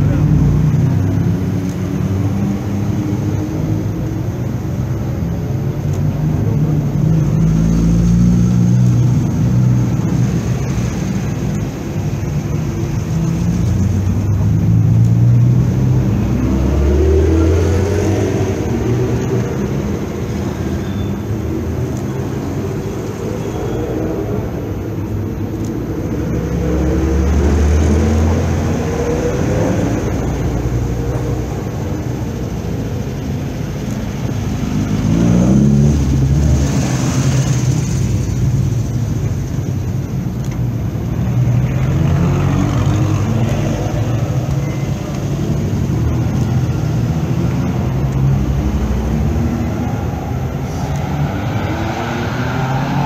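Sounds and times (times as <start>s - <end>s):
car engines pulling away: 0.0s - 53.0s.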